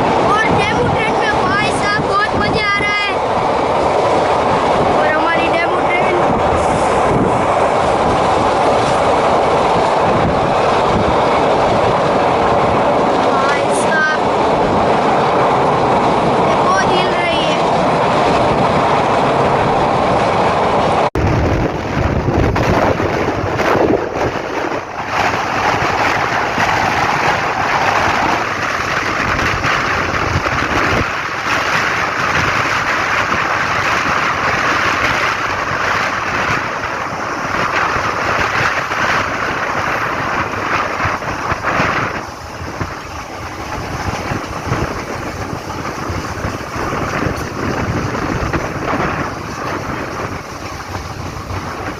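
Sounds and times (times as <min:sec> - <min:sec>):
train rumbling on track: 0:00.0 - 0:51.9
wind rushing over microphone: 0:00.0 - 0:51.9.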